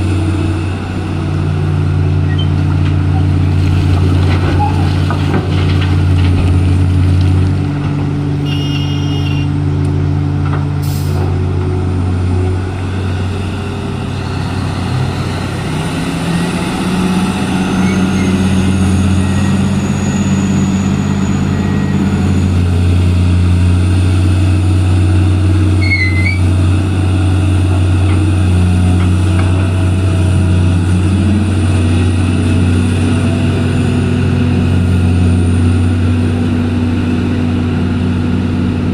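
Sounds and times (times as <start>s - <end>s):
heavy diesel engines: 0.0s - 38.9s.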